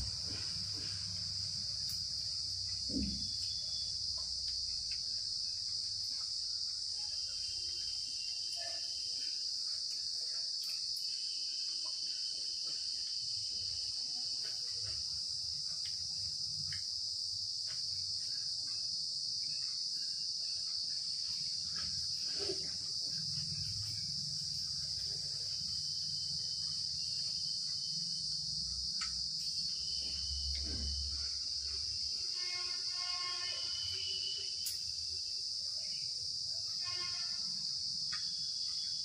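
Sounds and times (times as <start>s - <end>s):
insects chirring: 0.0s - 39.0s.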